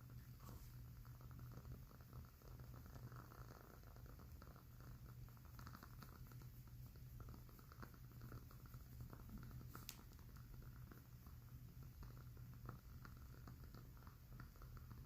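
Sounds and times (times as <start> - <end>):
candle crackling: 0.0 - 15.0.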